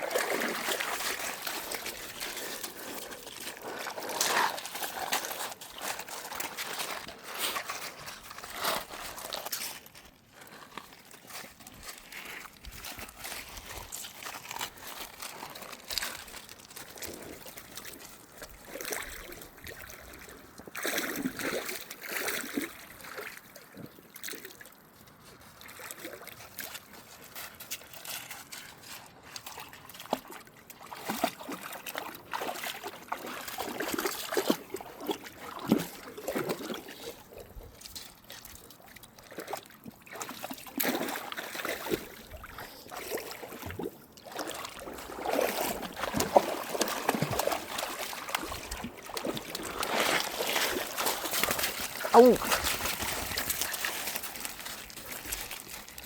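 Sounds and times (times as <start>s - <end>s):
water sloshing and splashing: 0.0s - 56.0s
water trickling in a stream: 0.0s - 56.0s.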